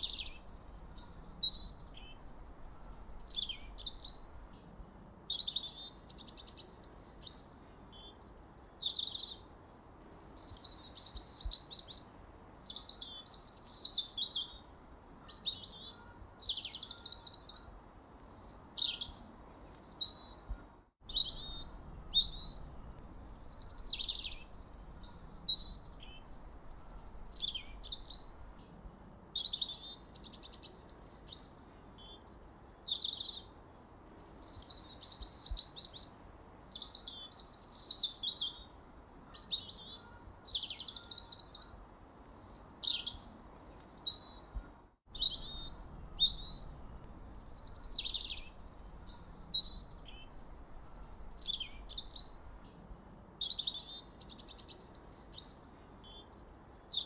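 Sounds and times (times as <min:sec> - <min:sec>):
faint steady hiss: 0:00.0 - 0:57.0
songbird chirping: 0:00.0 - 0:57.0.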